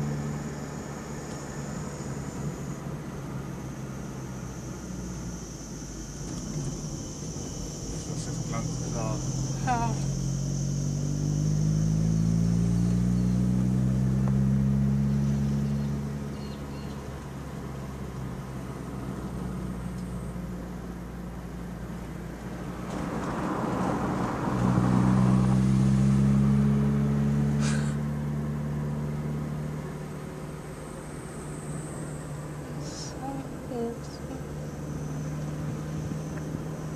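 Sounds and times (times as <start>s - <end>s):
car engine revving: 0.0s - 36.9s
road noise rush: 0.0s - 36.9s.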